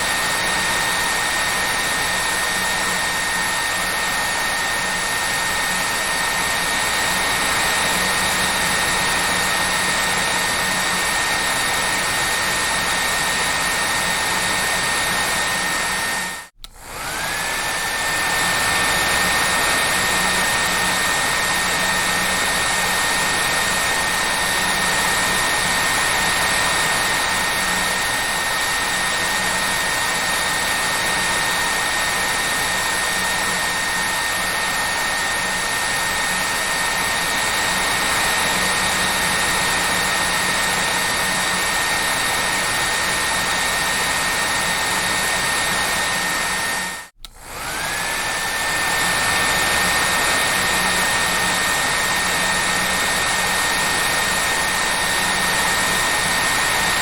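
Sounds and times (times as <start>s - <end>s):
hair dryer whirring: 0.0s - 57.0s.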